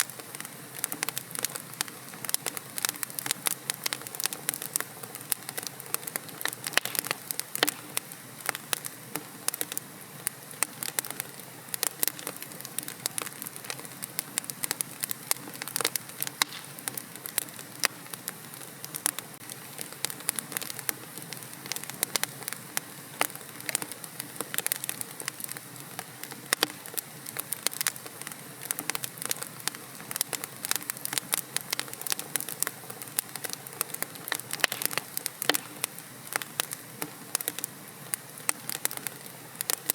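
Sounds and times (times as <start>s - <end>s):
fire crackling: 0.0s - 39.9s
soft steady hiss: 0.0s - 39.9s.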